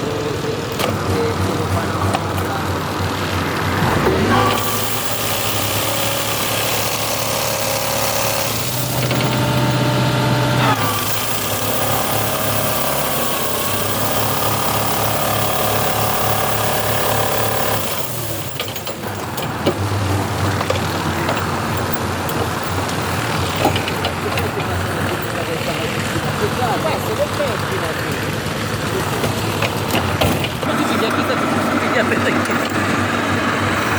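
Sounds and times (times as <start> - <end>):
farm machine engine running: 0.0 - 33.9
scattered clicks and knocks: 0.0 - 33.9.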